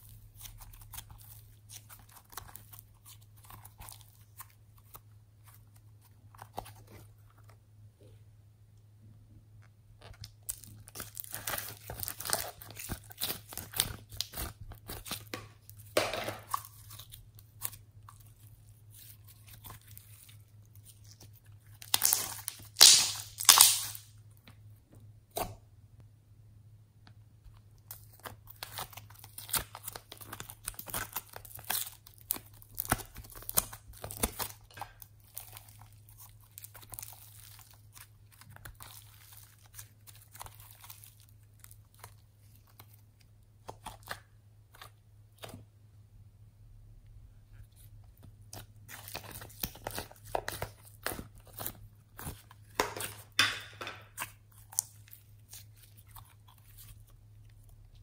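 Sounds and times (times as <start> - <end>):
hands squishing slime: 0.0 - 7.2, 10.0 - 24.1, 27.7 - 45.7, 47.4 - 58.0.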